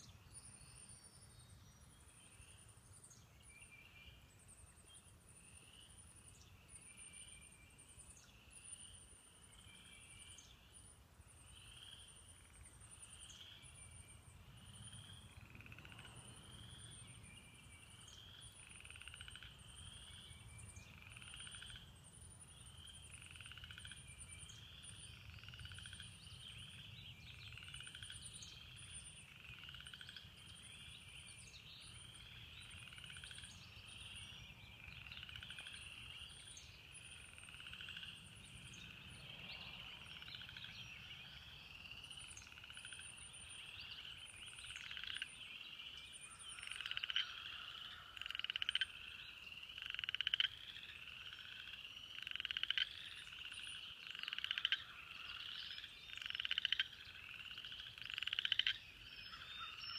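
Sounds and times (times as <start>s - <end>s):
tree frogs trilling chorus: 0.0s - 59.9s.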